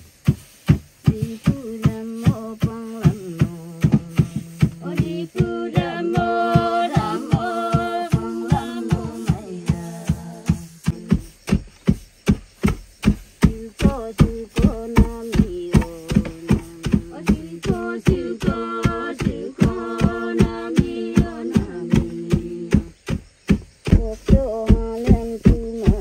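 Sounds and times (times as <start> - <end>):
wooden pestles thudding into rice: 0.0 - 26.0
voices singing slow song: 0.4 - 12.0, 12.7 - 23.2, 23.8 - 26.0.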